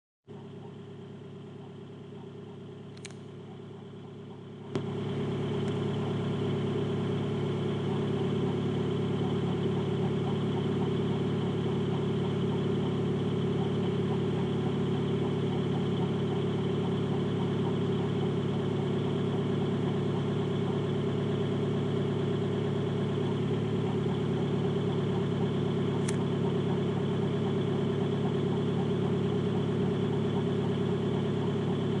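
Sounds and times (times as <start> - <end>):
diesel engine running: 0.3 - 32.0.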